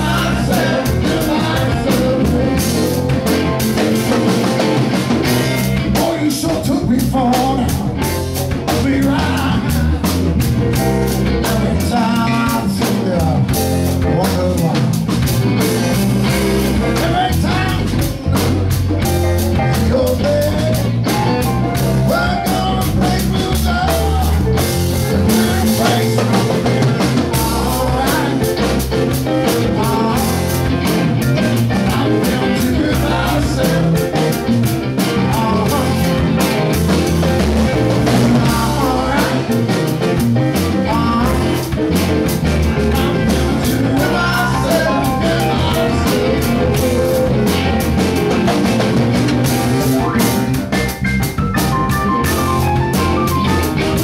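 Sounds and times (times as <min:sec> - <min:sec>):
drum kit beat: 0:00.0 - 0:54.0
guitar: 0:00.0 - 0:54.0
live band playing: 0:00.0 - 0:54.0.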